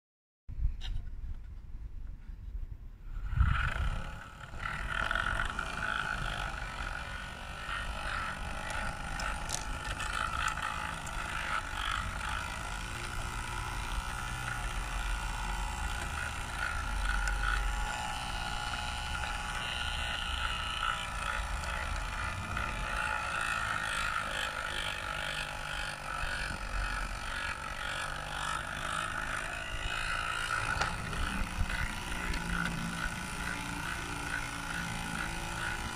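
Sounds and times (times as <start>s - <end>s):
model train drive whine: 3.2s - 35.9s
wheels clicking on rails: 3.5s - 35.9s.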